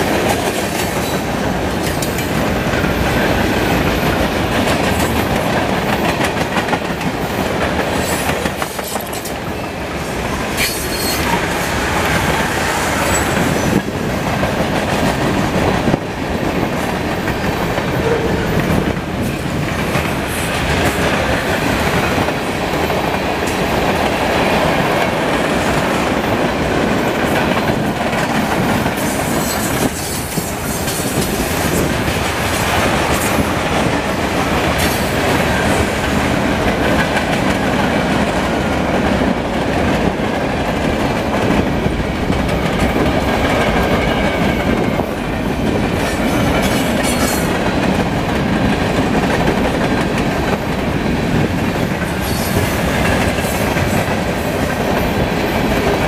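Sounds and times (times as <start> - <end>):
clickety-clack of rail joints: 0.0 - 56.0
train wheels rumbling on rail: 0.0 - 56.0.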